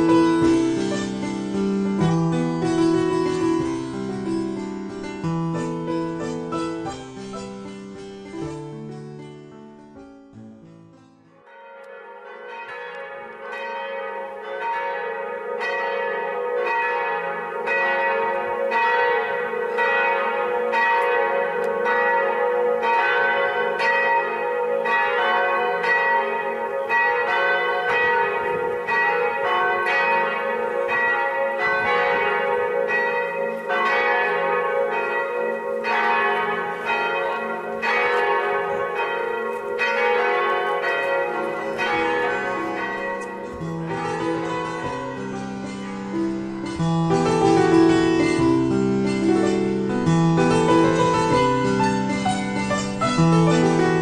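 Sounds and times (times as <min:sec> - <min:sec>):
church bells pealing: 0:00.0 - 0:10.2, 0:11.2 - 0:54.0.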